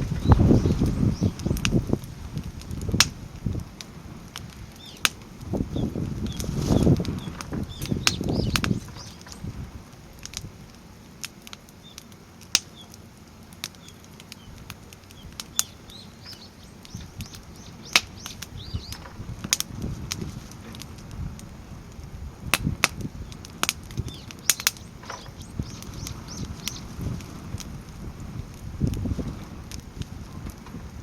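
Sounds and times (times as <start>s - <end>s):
firewood crackling and popping: 0.0s - 31.0s
low rumbling whoosh of fire: 0.0s - 31.0s.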